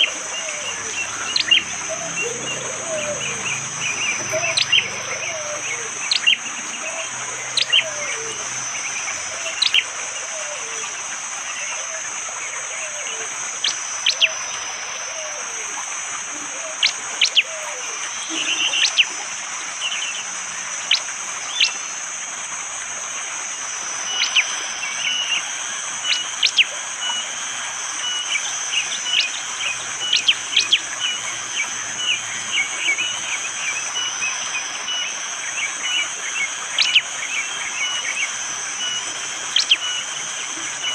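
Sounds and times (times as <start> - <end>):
bird twittering: 0.0 - 15.6, 16.3 - 22.1, 23.6 - 40.9
high-pitched forest drone: 0.0 - 40.9
lower-pitched bird calls: 0.0 - 40.9
rain hiss: 0.0 - 40.9.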